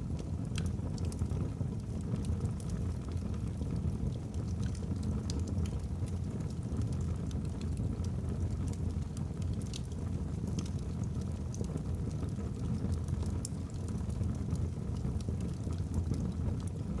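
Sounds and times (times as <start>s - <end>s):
fire rumbling in fireplace: 0.0s - 17.0s.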